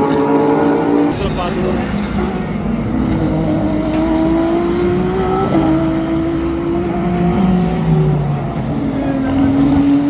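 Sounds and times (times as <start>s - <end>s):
lower engine note: 0.0s - 10.0s
race car engines running hard: 0.0s - 10.0s.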